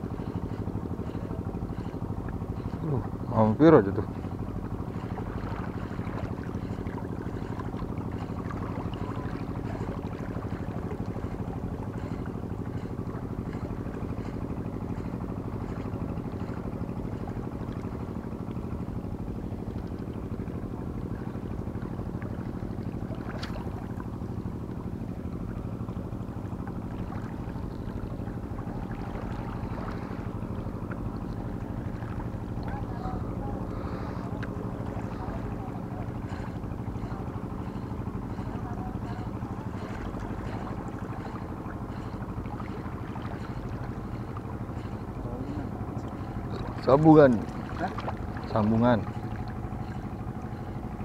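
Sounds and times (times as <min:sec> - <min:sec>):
boat engine drone: 0:00.0 - 0:51.0.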